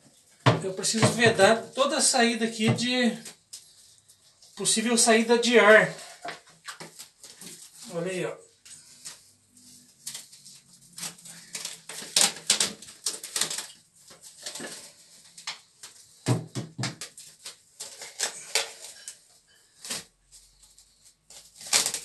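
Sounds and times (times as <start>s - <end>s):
cling film crinkling: 0.1s - 16.3s, 16.9s - 22.0s.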